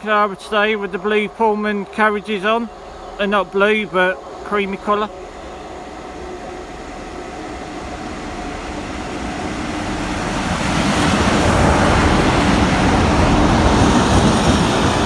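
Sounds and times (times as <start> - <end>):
train wheel noise: 0.0 - 15.0.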